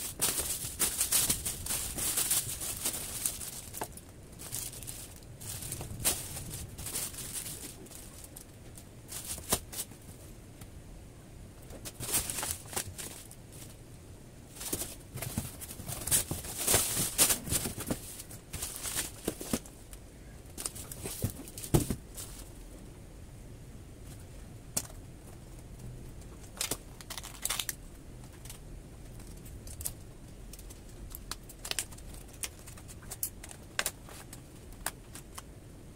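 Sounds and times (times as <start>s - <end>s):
plastic and paper packaging rustling: 0.0s - 10.3s, 11.7s - 13.8s, 14.5s - 19.8s, 20.5s - 22.6s, 26.4s - 35.4s.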